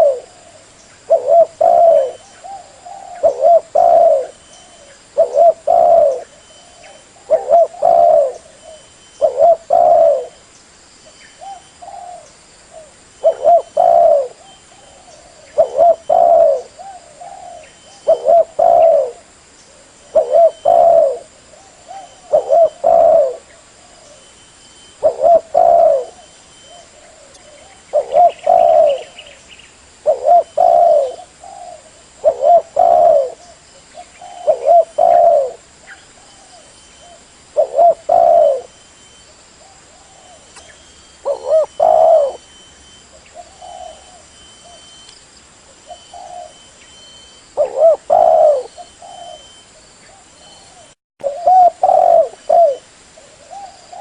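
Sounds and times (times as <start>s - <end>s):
dove cooing: 0.0s - 10.4s, 11.4s - 29.4s, 30.0s - 45.0s, 45.8s - 54.0s.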